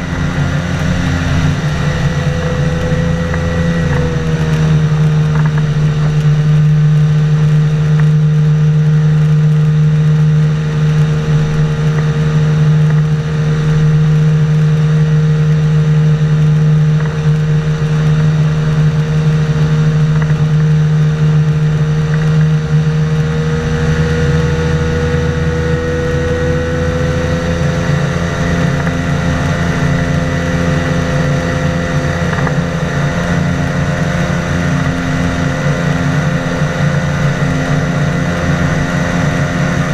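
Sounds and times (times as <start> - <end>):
boat engine and propeller running: 0.0 - 39.9.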